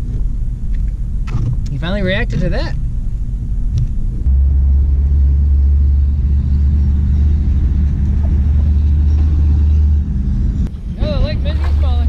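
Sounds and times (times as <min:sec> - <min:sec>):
loud low rumble: 0:00.0 - 0:12.0.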